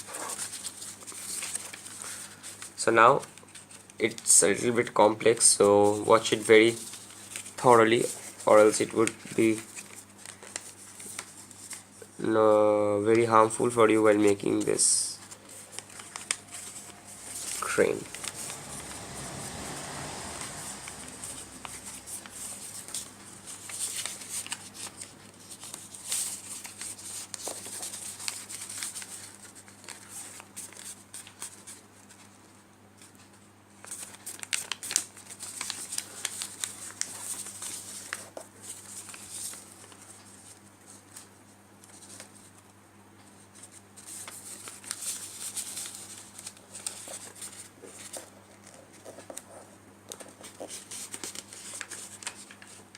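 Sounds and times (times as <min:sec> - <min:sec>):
paper rustling and crinkling: 0:00.0 - 0:12.3, 0:13.2 - 0:42.6, 0:43.2 - 0:52.9.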